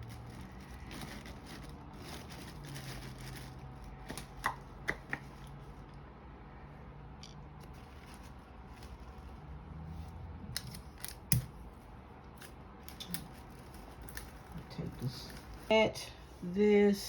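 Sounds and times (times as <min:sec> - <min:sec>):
adhesive tape rustling and crinkling: 0:00.0 - 0:05.9, 0:07.6 - 0:15.7.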